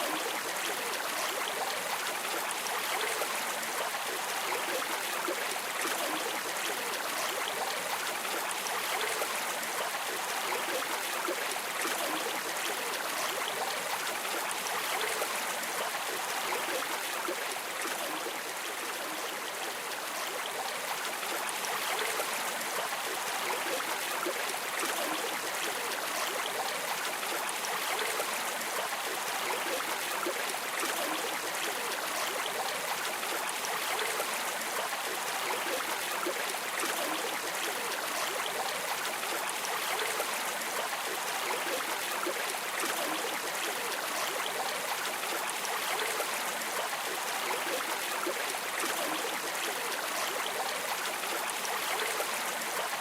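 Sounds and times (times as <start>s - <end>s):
stream flowing: 0.0s - 53.0s.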